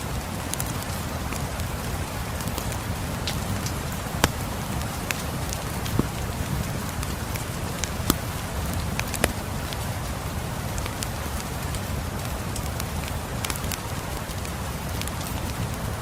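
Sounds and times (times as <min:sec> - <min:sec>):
steady rain: 0:00.0 - 0:16.0
wood fire crackling: 0:00.6 - 0:16.0.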